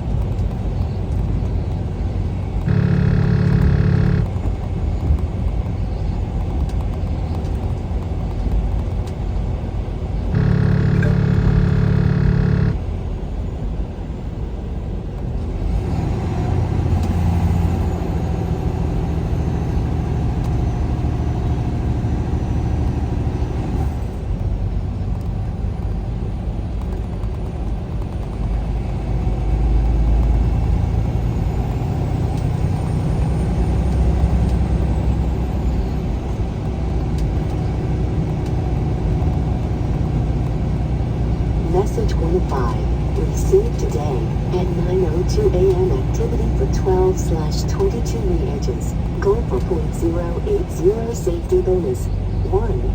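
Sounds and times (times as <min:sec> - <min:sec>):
truck diesel engine rumble: 0:00.0 - 0:26.8, 0:28.5 - 0:52.9
road noise: 0:00.0 - 0:27.0, 0:32.1 - 0:52.9.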